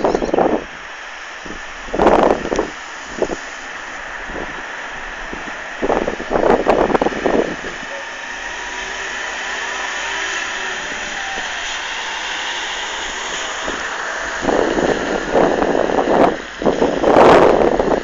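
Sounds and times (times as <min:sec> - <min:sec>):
wind buffeting microphone: 0:00.0 - 0:18.0
vehicle passing on wet road: 0:00.8 - 0:18.0.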